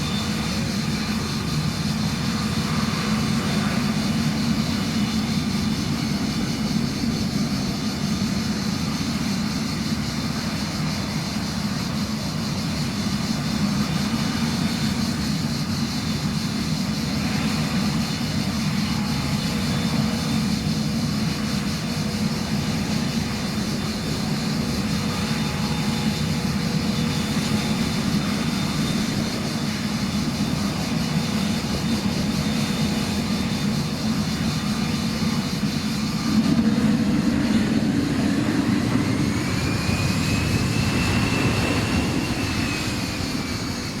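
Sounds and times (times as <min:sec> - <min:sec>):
low engine noise: 0:00.0 - 0:44.0
turbofan engines high whine: 0:00.0 - 0:44.0.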